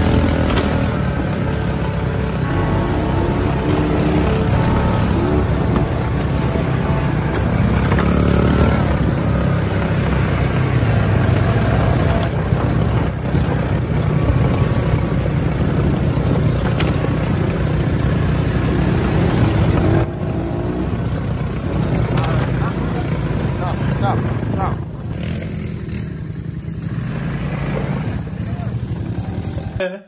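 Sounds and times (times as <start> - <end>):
quad bike engines running: 0.0 - 30.0.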